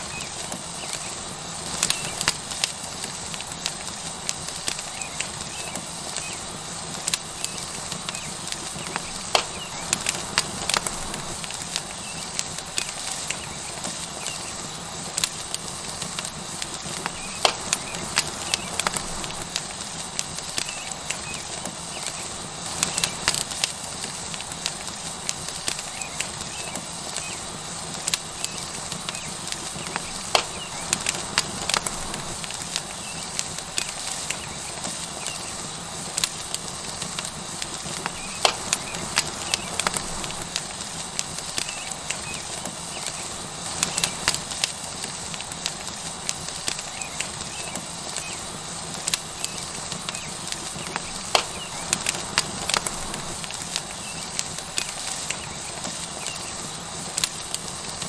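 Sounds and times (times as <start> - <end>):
burning wood crackling: 0.0 - 58.0
steak sizzling on hot rock: 0.0 - 58.0.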